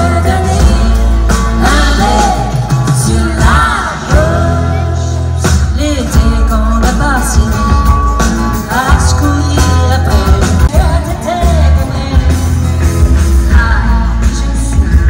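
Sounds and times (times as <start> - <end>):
bass line and drums: 0.0 - 15.0
person singing: 0.0 - 15.0.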